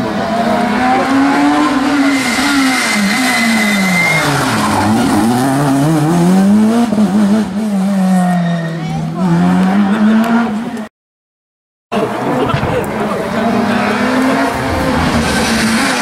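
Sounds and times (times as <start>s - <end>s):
rally car engine revving: 0.0s - 10.9s, 12.0s - 16.0s.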